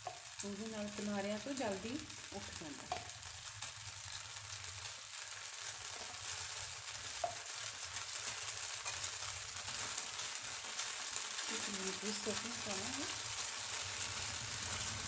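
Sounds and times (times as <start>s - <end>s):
batter sizzling in a frying pan: 0.0s - 15.0s.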